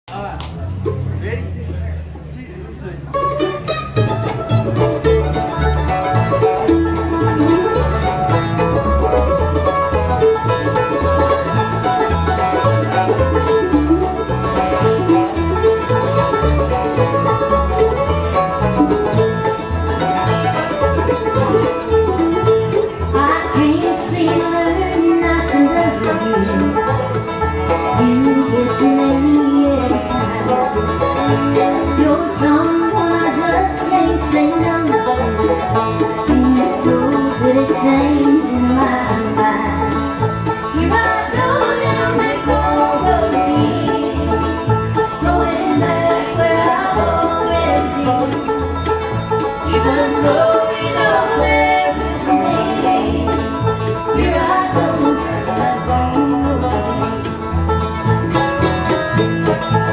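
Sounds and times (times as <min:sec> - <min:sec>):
upright double bass: 0:00.0 - 0:59.9
acoustic guitar: 0:00.1 - 0:59.9
banjo: 0:00.1 - 0:59.9
fiddle: 0:00.1 - 0:59.9
mandolin: 0:00.1 - 0:59.9.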